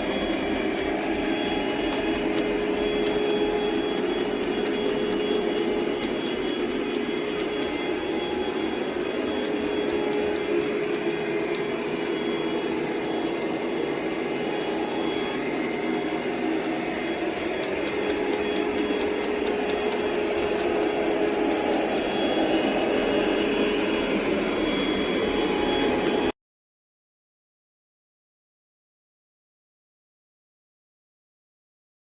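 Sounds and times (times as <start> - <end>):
robot vacuum whirring: 0.0 - 26.3.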